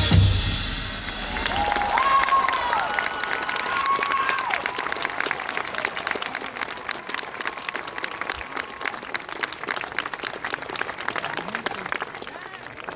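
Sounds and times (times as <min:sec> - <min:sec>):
crowd applauding: 0:00.9 - 0:12.9.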